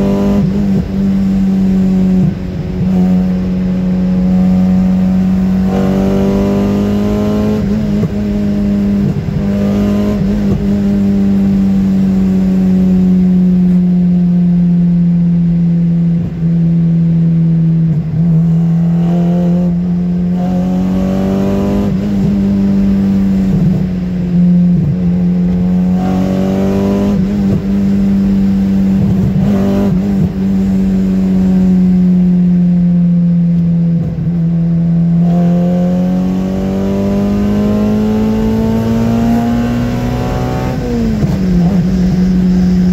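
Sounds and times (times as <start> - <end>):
car engine revving: 0.0 - 42.9
steady low drone: 0.0 - 42.9.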